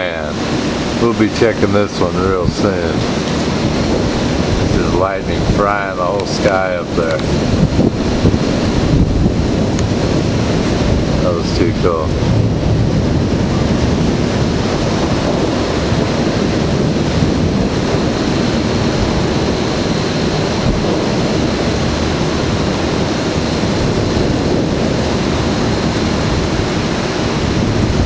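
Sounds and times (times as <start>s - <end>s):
storm wind buffeting microphone: 0.0s - 28.0s.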